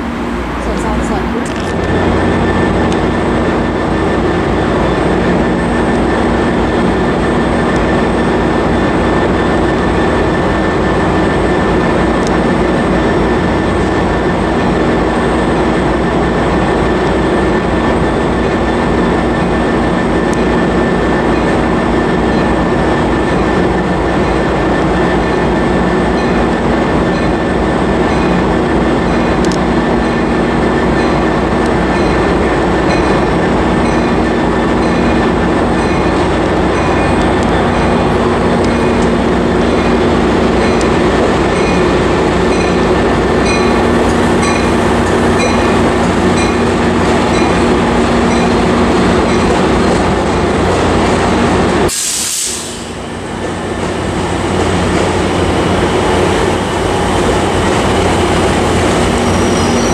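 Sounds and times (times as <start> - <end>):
diesel locomotive idling: 0.0 - 59.9.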